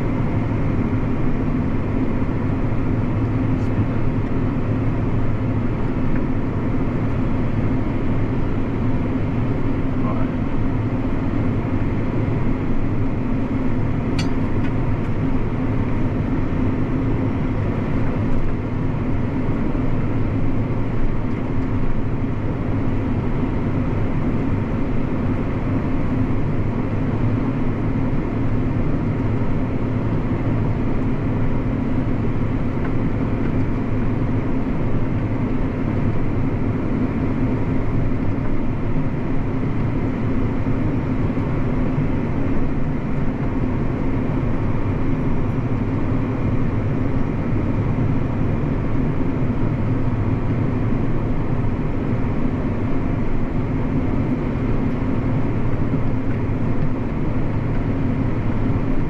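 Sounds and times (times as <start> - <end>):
tractor engine drone: 0.0 - 59.0.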